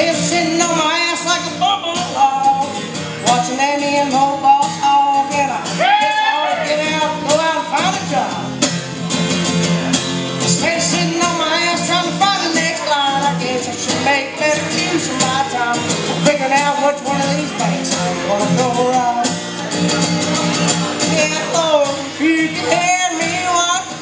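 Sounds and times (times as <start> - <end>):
man singing: 0.0 - 8.6, 10.4 - 19.5, 21.0 - 24.0
acoustic guitar strumming: 0.0 - 24.0.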